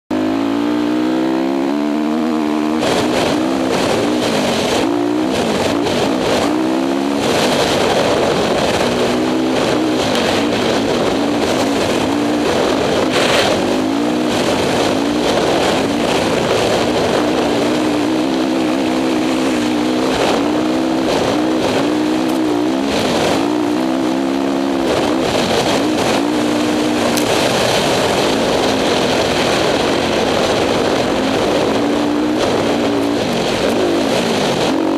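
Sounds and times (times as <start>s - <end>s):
dirt bike engine revving: 0.1s - 34.9s
wind on microphone: 0.1s - 34.9s.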